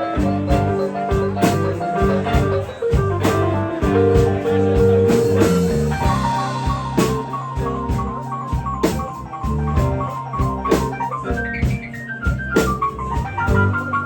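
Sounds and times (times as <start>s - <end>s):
electric guitar: 0.0s - 14.0s
live blues band: 0.0s - 14.0s
drum hits: 0.1s - 14.0s.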